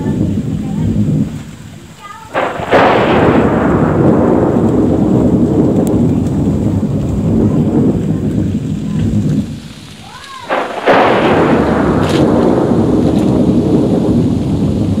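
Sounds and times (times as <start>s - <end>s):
thunder clap and rumble: 0.0s - 15.0s.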